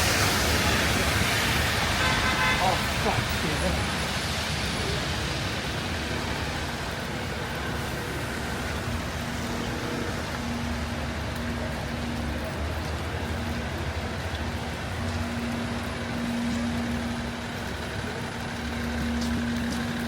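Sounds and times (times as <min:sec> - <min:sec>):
heavy rain on street: 0:00.0 - 0:20.0
traffic noise: 0:00.0 - 0:20.0
vehicle engine hum: 0:00.0 - 0:20.0.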